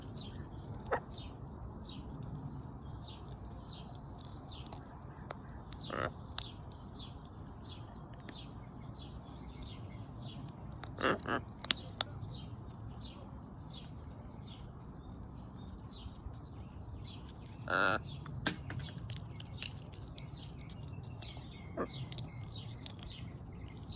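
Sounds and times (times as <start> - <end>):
birds chirping: 0.0 - 23.9
loud bird calls: 0.0 - 23.9.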